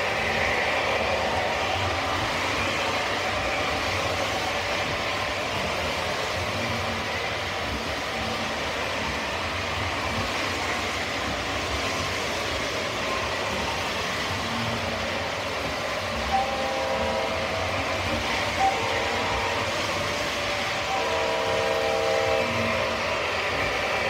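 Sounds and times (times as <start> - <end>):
model train rolling on track: 0.0 - 24.0.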